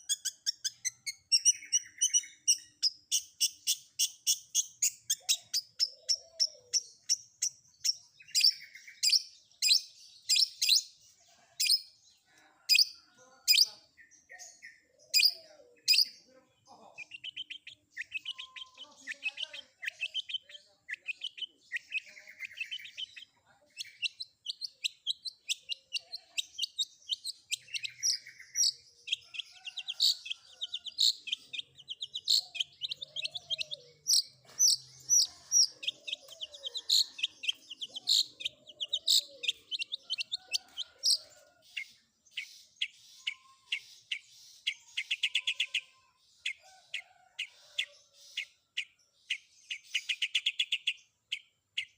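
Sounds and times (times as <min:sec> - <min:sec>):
bird singing chattering trills: 0:00.0 - 0:51.9.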